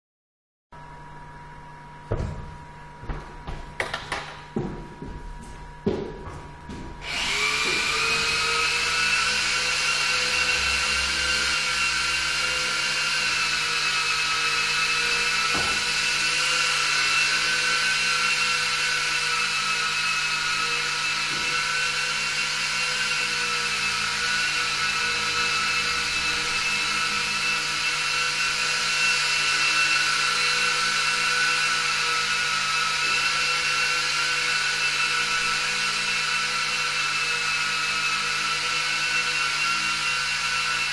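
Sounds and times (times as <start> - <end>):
toy plane propellers whining: 7.0 - 40.9.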